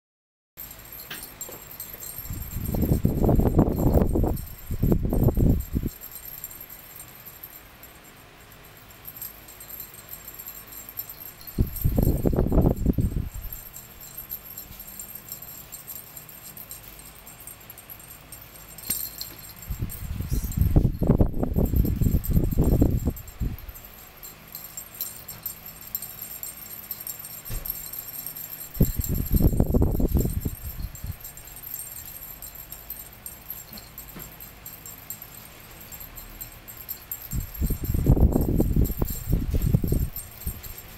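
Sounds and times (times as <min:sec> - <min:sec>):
toy jingling: 0:00.6 - 0:40.9.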